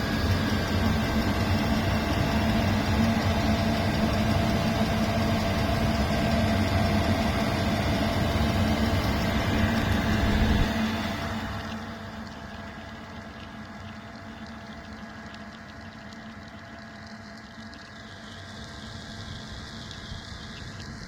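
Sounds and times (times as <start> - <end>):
air heater humming: 0.0 - 17.1.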